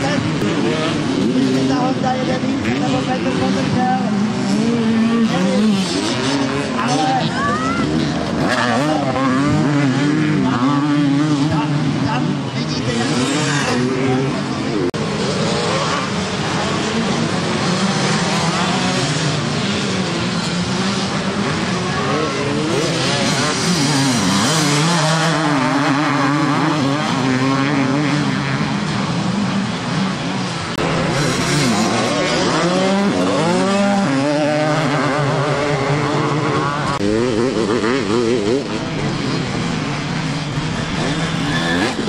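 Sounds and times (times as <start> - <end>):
motocross bikes revving: 0.0 - 42.0.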